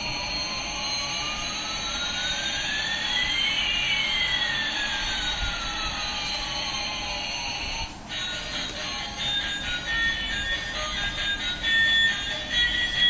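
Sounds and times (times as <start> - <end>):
toy jet engine sound effect: 0.1 - 13.0.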